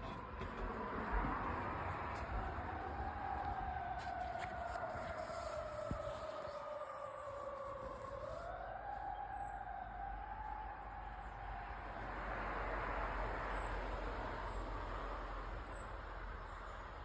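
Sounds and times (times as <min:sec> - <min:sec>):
emergency vehicle siren wailing: 0:00.0 - 0:16.2
passing vehicle road noise: 0:00.0 - 0:17.0.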